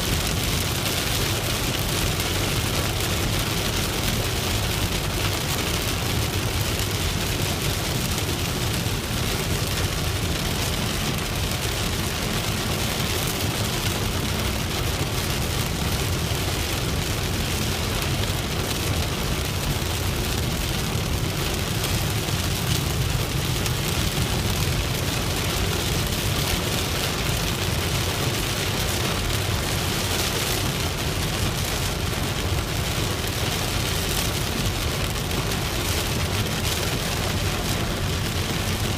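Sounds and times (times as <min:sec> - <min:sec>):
car road and engine noise: 0:00.0 - 0:38.9
rain on a car: 0:00.0 - 0:38.9.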